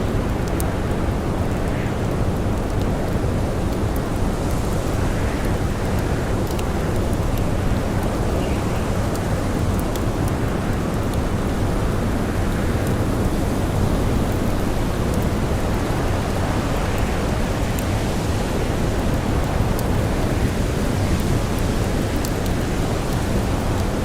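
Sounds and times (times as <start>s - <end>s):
blizzard wind blowing: 0.0s - 24.0s
campfire crackling: 0.0s - 24.0s.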